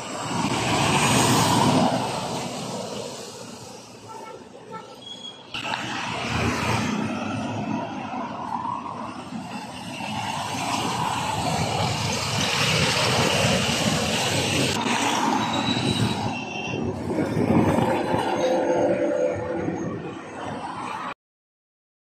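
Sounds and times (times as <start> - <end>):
diesel trucks passing: 0.0 - 21.2
high-pitched squeals: 1.2 - 20.5.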